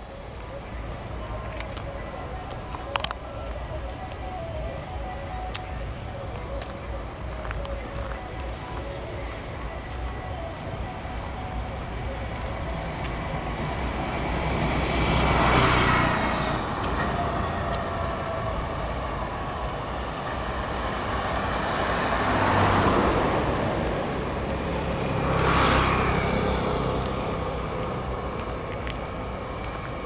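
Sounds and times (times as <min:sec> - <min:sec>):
hum of road traffic: 0:00.0 - 0:30.0
vehicles passing close by: 0:00.0 - 0:30.0.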